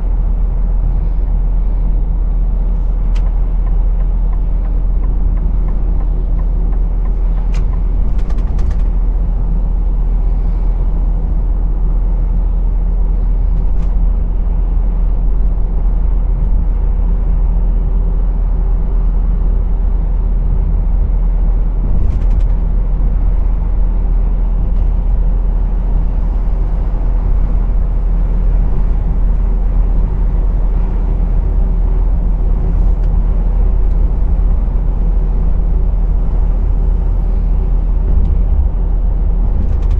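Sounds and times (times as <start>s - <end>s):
diesel truck engine running: 0.0s - 39.9s
road rumble: 0.0s - 39.9s.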